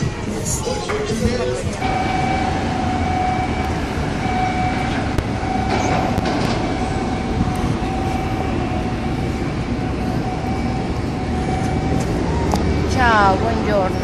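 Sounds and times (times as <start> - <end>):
machinery rumble: 0.0 - 14.0.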